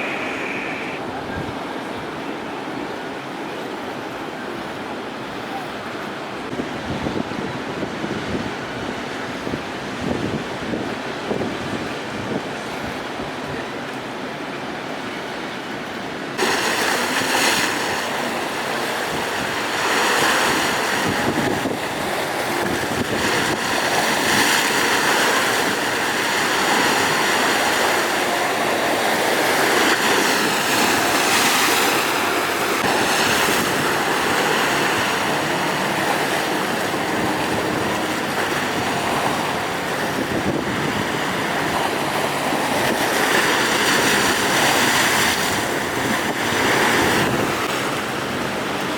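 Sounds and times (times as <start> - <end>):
strong wind: 0.0 - 48.9
waves breaking: 0.0 - 48.9.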